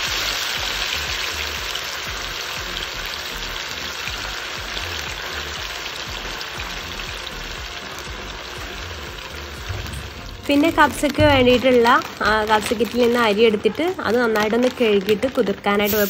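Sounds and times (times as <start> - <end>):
chicken deep-frying in hot oil: 0.0 - 16.0
faint background music: 0.0 - 16.0.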